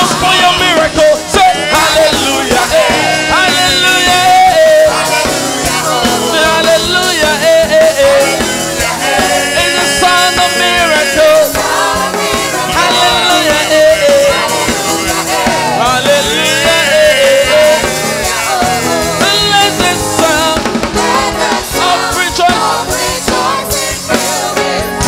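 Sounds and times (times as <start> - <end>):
band with steady drum beat: 0.0 - 25.0
choir singing: 0.0 - 25.0.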